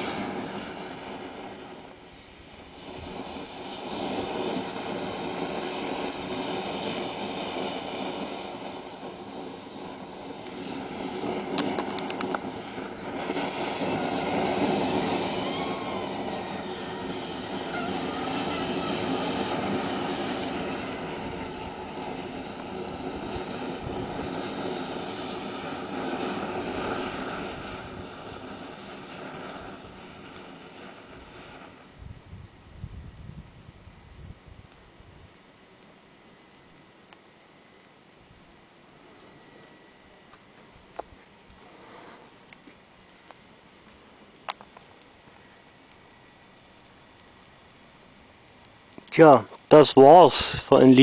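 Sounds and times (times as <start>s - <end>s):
sharp crackles: 0.0s - 32.0s, 40.2s - 51.0s
jet-like flame rushing: 0.0s - 51.0s.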